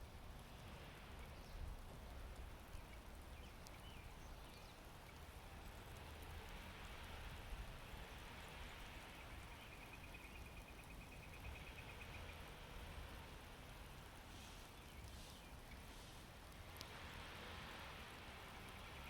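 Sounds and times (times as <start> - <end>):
light ticks: 0.0 - 19.0
low steady outdoor noise: 0.0 - 19.0.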